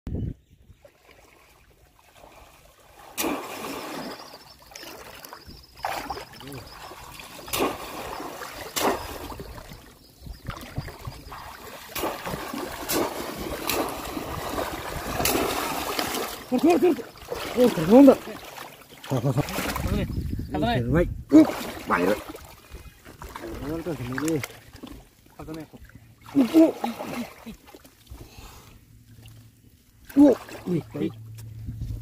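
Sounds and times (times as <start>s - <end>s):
water sloshing: 0.7s - 20.3s, 21.3s - 31.8s
sharp water splashes: 0.8s - 20.0s, 21.3s - 28.1s, 30.0s - 31.2s.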